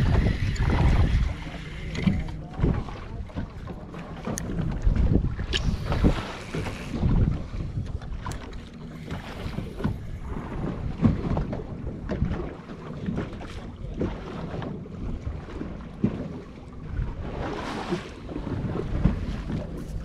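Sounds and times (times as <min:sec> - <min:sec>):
waves slapping against hull: 0:00.0 - 0:20.0
wind buffeting microphone: 0:00.0 - 0:20.0.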